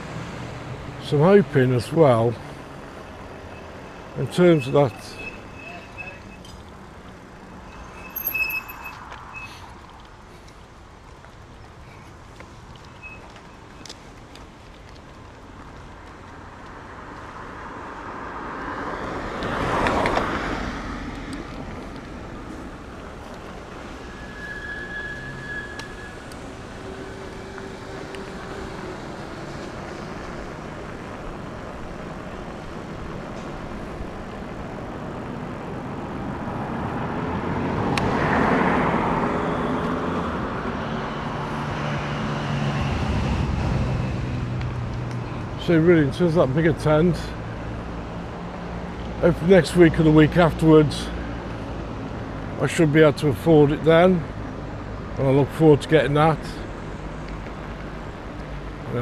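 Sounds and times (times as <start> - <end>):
road noise: 0.0 - 59.0
vehicles passing by: 0.0 - 59.0.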